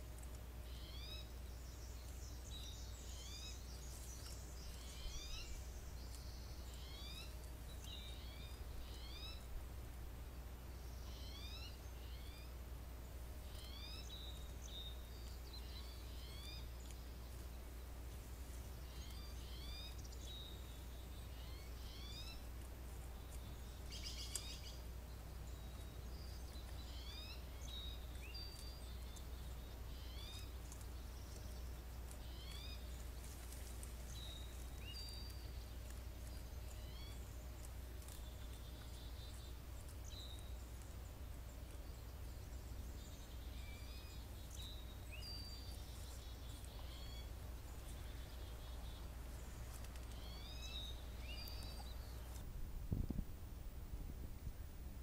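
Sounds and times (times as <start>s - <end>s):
birds chirping: 0.0s - 52.6s
steady low rumble: 0.0s - 55.0s.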